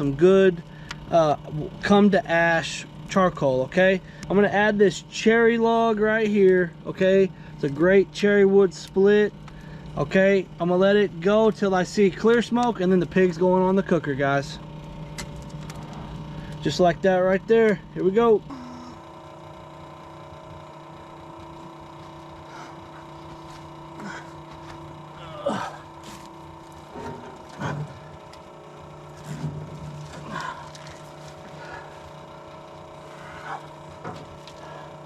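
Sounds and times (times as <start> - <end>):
electric blower fan humming: 0.0 - 35.0.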